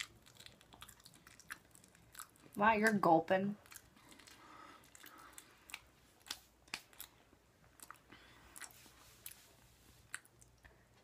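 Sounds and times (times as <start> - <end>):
person chewing and swallowing: 0.0 - 2.6, 3.6 - 11.0.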